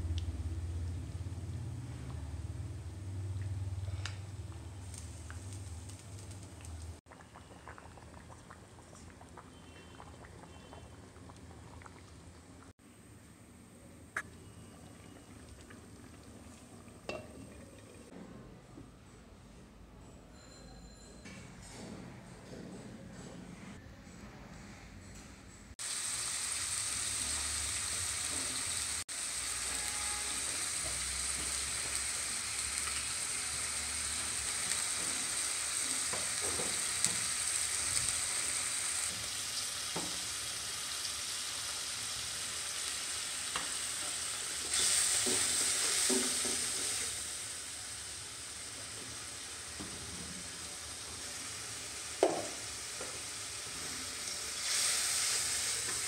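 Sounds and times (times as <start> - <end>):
curry sizzling and bubbling: 0.0 - 12.8, 14.2 - 18.2, 25.8 - 56.0.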